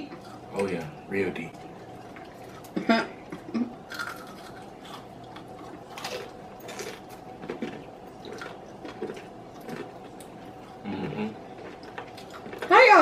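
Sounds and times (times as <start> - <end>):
chewing crispy food: 0.0 - 13.0
faint steady hum: 0.0 - 13.0.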